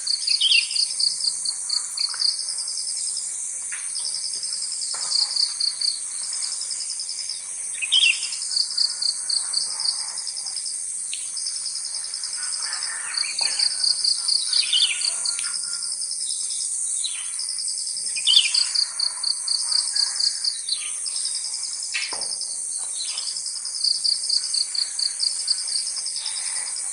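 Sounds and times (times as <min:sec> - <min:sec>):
crickets and insects hissing: 0:00.0 - 0:26.9.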